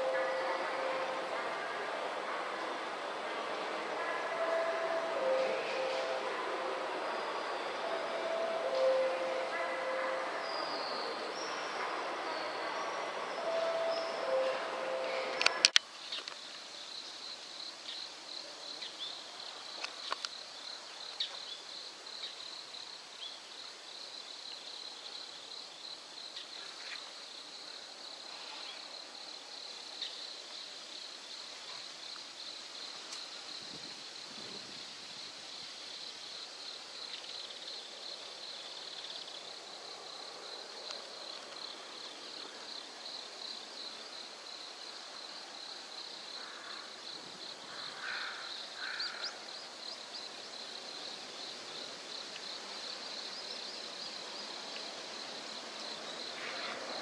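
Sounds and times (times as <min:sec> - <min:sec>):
crickets chirring: 0:00.0 - 0:57.0
faint outdoor background noise: 0:00.0 - 0:57.0.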